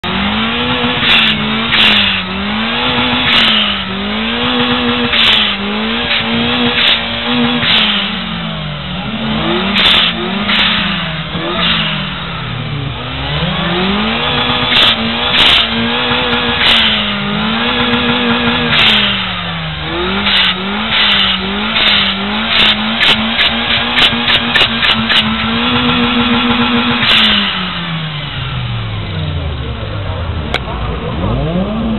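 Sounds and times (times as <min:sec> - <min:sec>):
car engine revving: 0:00.0 - 0:31.9
sharp bursts of engine noise: 0:00.0 - 0:31.9.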